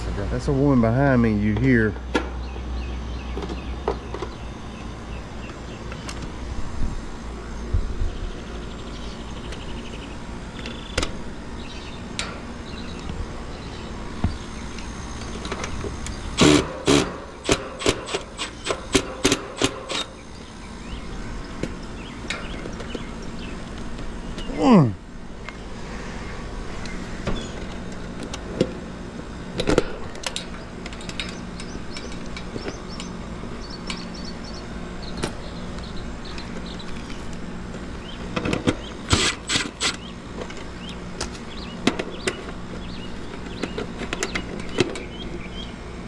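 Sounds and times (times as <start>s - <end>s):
air conditioner hum: 0.0s - 46.0s.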